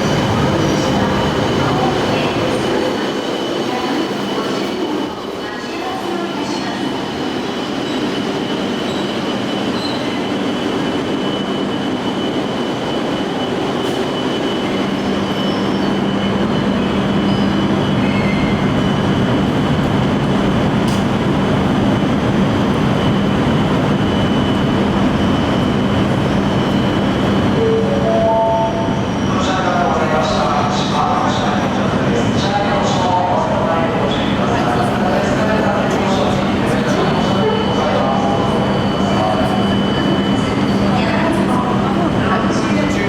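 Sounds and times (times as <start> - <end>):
train running noise: 0.0 - 43.0.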